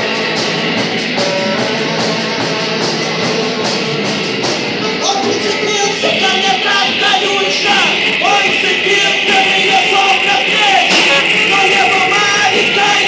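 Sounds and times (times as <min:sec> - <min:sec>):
drums: 0:00.0 - 0:13.0
electric guitar: 0:00.0 - 0:13.0
saxophone: 0:00.0 - 0:13.0.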